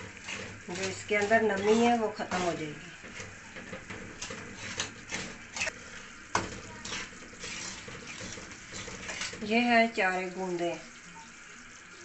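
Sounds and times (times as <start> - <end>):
steel spoon scraping a pot: 0.0 - 9.7.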